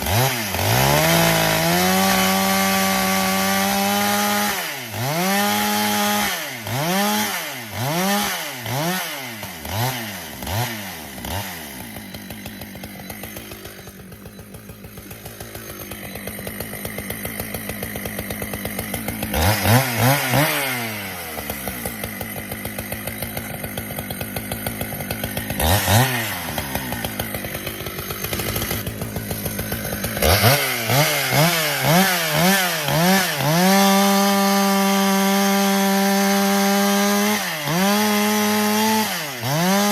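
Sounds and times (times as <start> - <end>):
chainsaw cutting firewood: 0.0 - 39.9.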